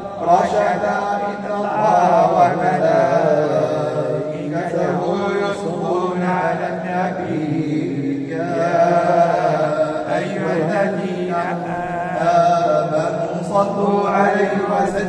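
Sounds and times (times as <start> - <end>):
men chanting: 0.0 - 15.0
voice through a microphone: 0.0 - 15.0.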